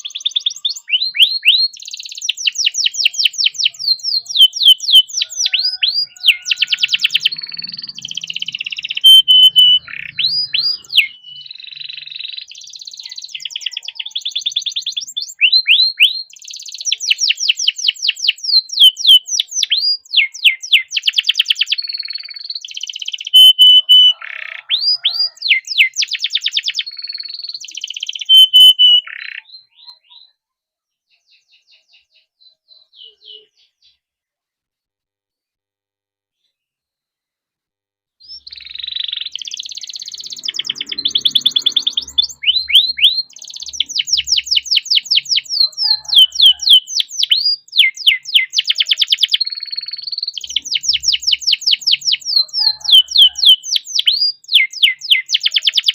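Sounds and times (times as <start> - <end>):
canary singing trills: 0.0 - 34.0, 38.2 - 55.9
faint bird chirps: 0.0 - 34.4, 38.2 - 55.9.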